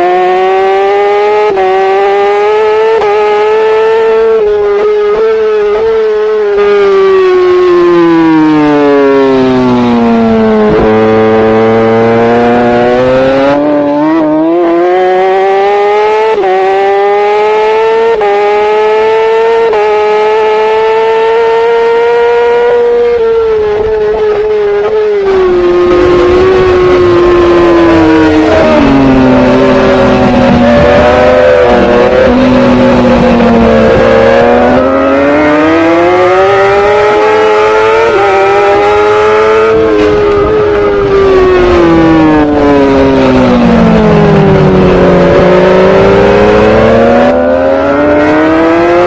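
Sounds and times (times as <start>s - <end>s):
racing motorcycle engine: 0.0s - 49.0s.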